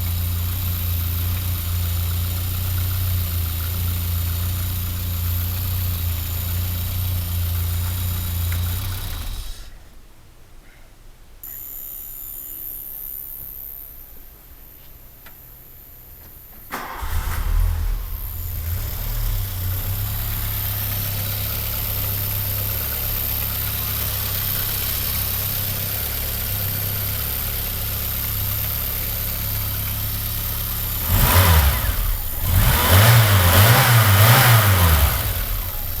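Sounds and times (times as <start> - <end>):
car engine starting and idling: 0.0 - 9.8, 16.6 - 36.0
engine revving: 0.0 - 9.8, 16.7 - 36.0.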